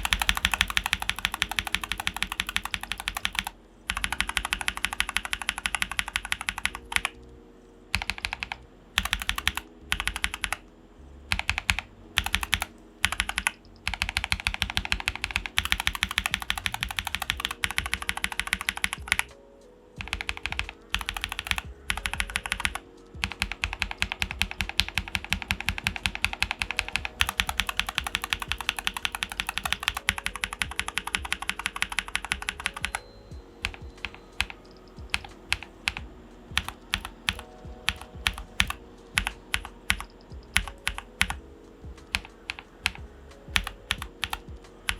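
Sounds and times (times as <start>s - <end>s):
mechanical keyboard typing: 0.0s - 7.2s, 7.9s - 10.7s, 11.3s - 19.4s, 20.0s - 41.4s, 42.0s - 44.9s.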